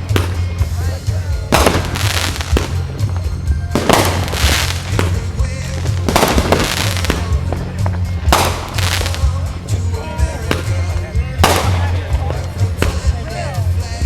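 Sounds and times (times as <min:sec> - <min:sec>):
background music: 0:00.0 - 0:14.0
fireworks bursting: 0:00.0 - 0:14.0
fireworks crackling: 0:00.0 - 0:14.0.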